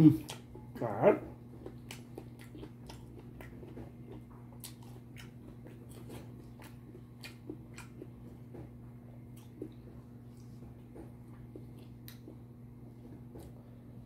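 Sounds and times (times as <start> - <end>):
steady low hum: 0.0 - 14.0
chewing and lip smacks: 0.2 - 0.8, 1.4 - 13.6.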